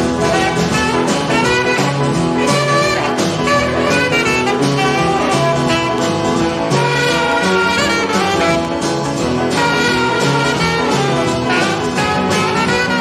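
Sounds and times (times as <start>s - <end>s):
brass melody: 0.0s - 13.0s
saxophone: 0.0s - 13.0s
walking bass line: 0.0s - 13.0s.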